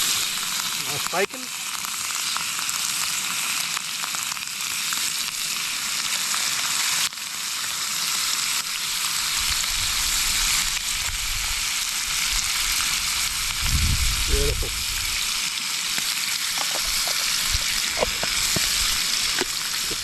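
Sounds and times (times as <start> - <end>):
bacon sizzling in a pan: 0.0 - 20.0.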